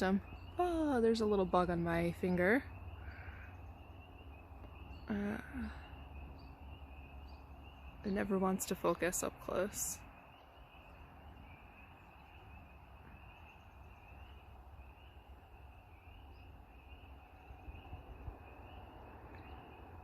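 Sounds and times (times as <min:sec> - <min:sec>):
frogs peeping in chorus: 0:00.0 - 0:20.0
low rumble: 0:00.0 - 0:20.0.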